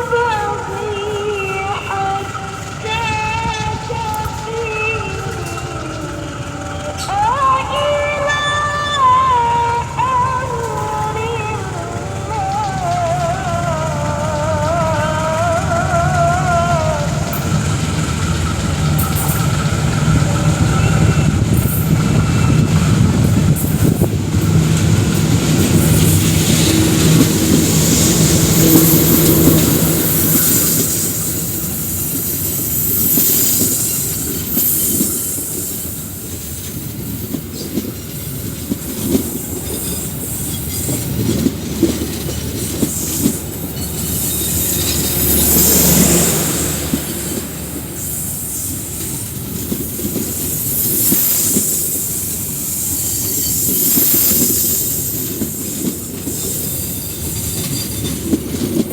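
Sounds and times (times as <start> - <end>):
high wheel squeal: 0.0 - 58.9
wheels clacking over rail joints: 0.0 - 58.9.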